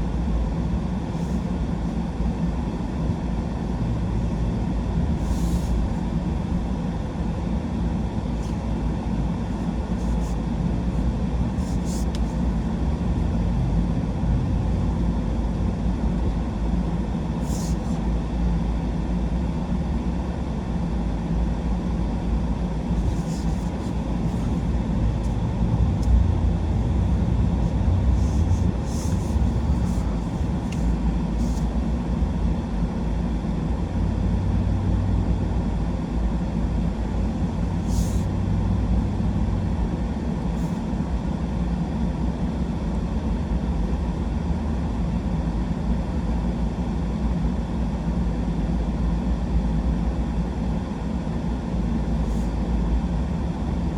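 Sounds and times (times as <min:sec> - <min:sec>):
truck engine and road noise: 0:00.0 - 0:45.0.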